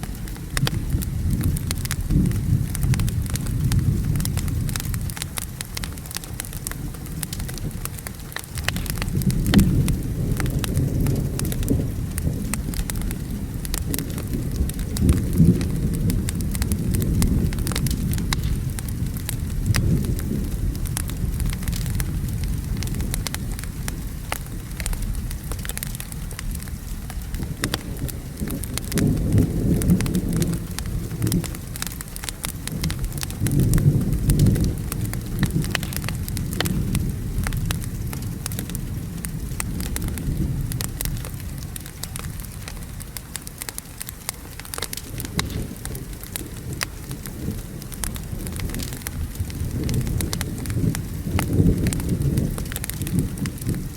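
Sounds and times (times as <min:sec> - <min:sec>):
crackling wood fire: 0:00.0 - 0:53.9
steady rain: 0:00.0 - 0:53.9
rolling thunder: 0:00.1 - 0:43.0, 0:44.7 - 0:53.9.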